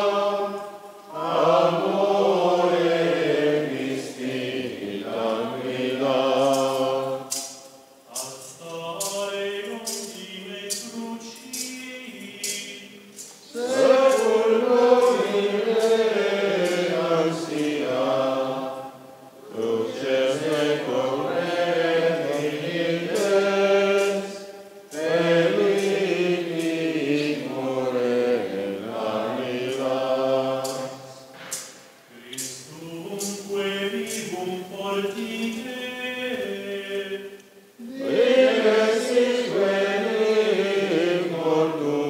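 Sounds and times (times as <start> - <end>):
men chanting a hymn: 0.0 - 42.0.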